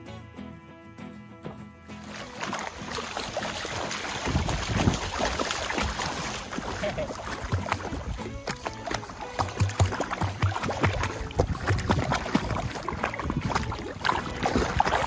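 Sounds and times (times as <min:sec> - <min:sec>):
soft music: 0:00.0 - 0:15.0
dog paddling in water: 0:01.9 - 0:15.0.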